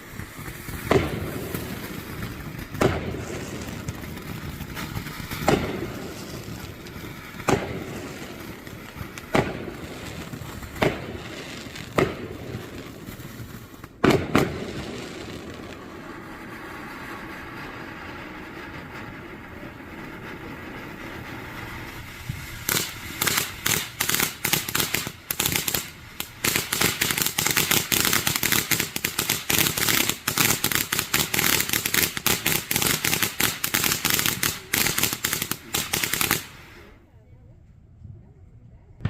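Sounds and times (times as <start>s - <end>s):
rapid string of firework bangs: 0.0s - 36.8s
fireworks hissing: 0.0s - 37.0s.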